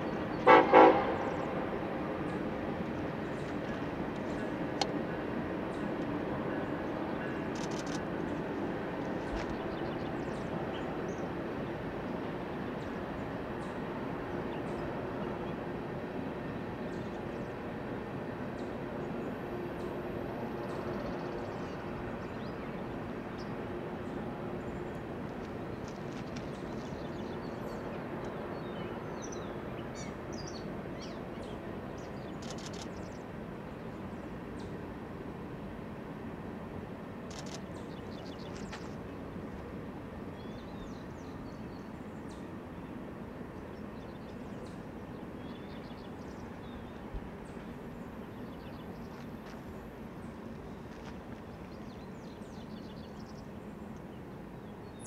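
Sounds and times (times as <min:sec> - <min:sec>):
freight train crossing bridge: 0:00.0 - 0:55.0.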